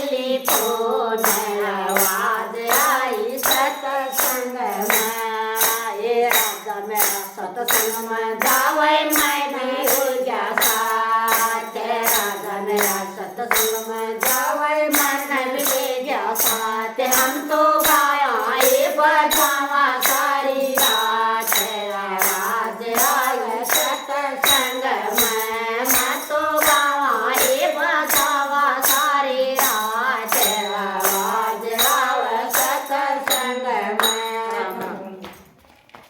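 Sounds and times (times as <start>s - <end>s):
jingly hand percussion beat: 0.0s - 35.6s
person singing devotional song: 0.0s - 36.0s.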